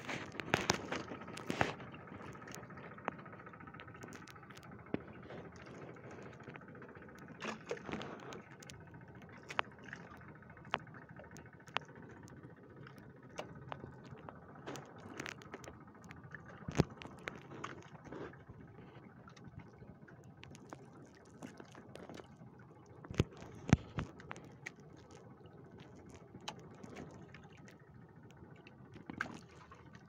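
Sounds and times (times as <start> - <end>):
raindrops tapping on a boat: 0.0 - 30.0
steady low rumble: 0.0 - 30.0.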